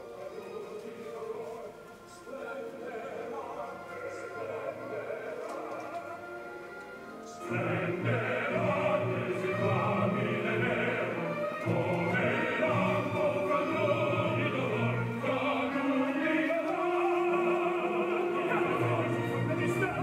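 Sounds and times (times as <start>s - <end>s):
opera from a television: 0.0s - 20.0s.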